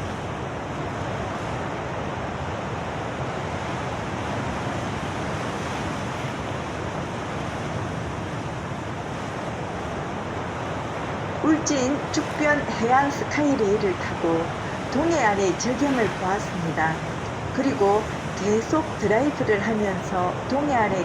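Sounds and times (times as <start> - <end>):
waves breaking: 0.0 - 21.0.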